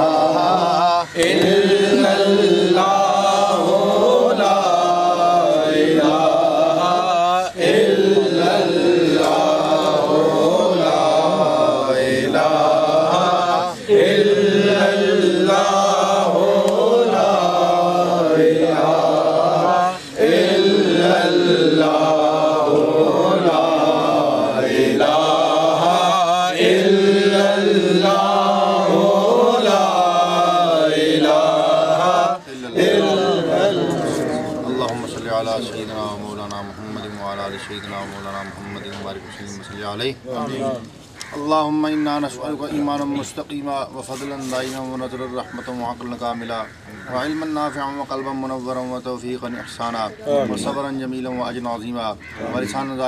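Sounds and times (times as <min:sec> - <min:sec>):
men chanting: 0:00.0 - 0:43.3, 0:50.1 - 0:51.6.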